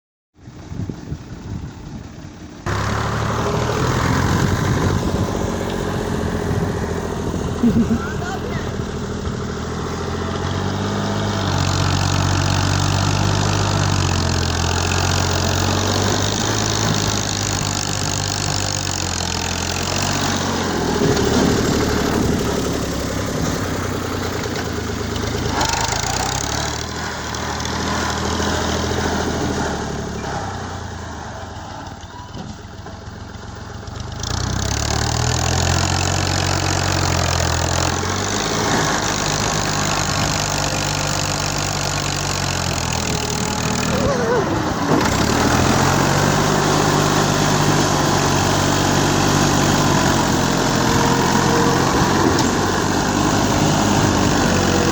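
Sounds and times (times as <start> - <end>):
tractor engine running: 0.4 - 54.9.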